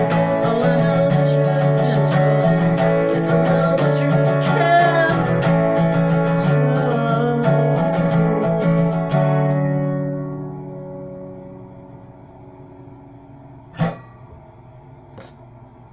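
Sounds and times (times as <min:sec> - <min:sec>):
guitar strumming: 0:00.0 - 0:14.8.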